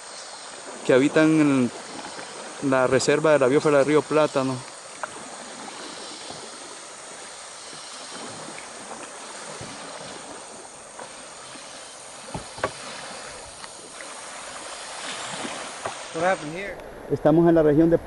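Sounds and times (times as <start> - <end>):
river water lapping against raft: 0.0 - 18.0.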